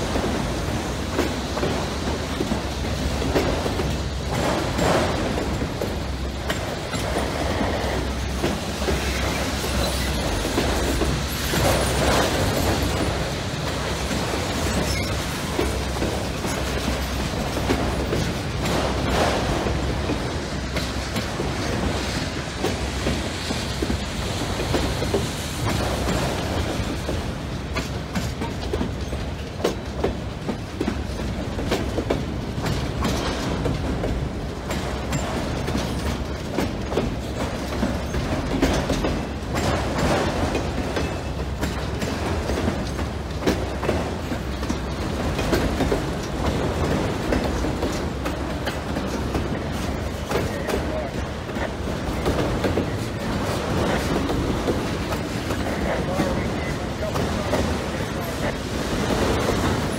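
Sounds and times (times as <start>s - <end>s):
train wheels rumbling on rails: 0.0s - 59.9s
wheels clicking over track joints: 0.0s - 59.9s.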